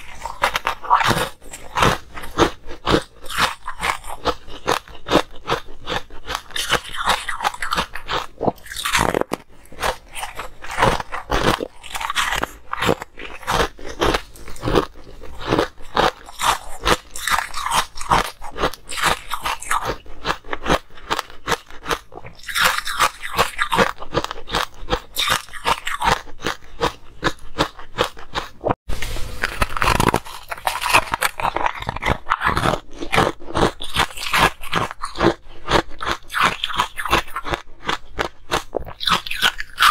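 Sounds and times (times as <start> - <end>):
ice cubes crunching between teeth: 0.0 - 39.9.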